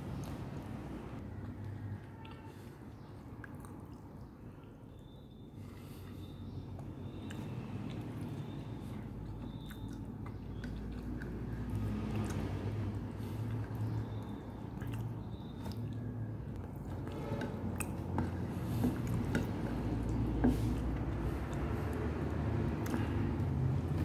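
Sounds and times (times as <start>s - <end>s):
fingers squishing wet food: 0.1s - 24.0s
chewing: 1.2s - 24.0s.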